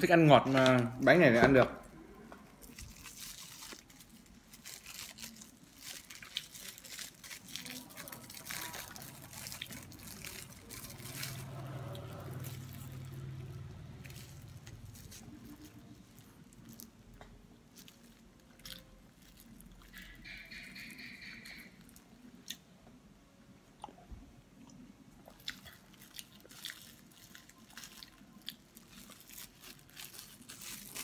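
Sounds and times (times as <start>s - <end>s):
wrapping crinkling: 2.6s - 22.0s, 25.3s - 31.0s.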